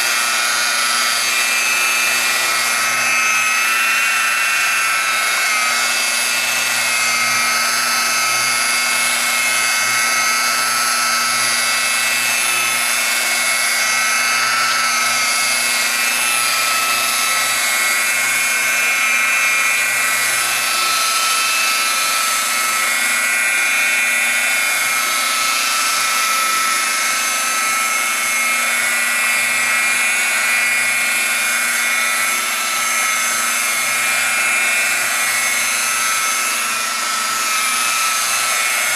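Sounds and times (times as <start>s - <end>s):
polishing machine whine: 0.0s - 38.9s.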